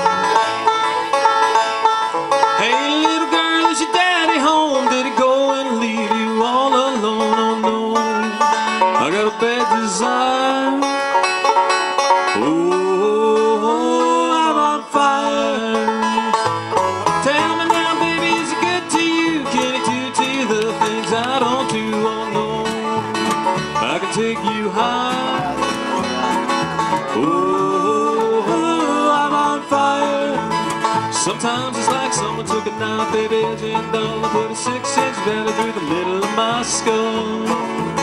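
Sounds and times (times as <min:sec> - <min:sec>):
acoustic guitar: 0:00.0 - 0:38.0
banjo picking: 0:00.0 - 0:38.0
upright bass notes: 0:00.0 - 0:38.0.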